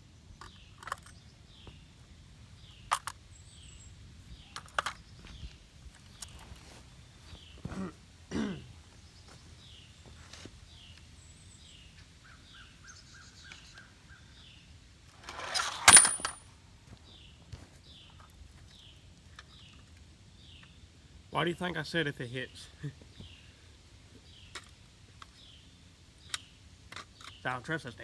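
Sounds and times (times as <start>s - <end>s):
birds chirping: 0.0s - 16.4s, 17.1s - 28.0s.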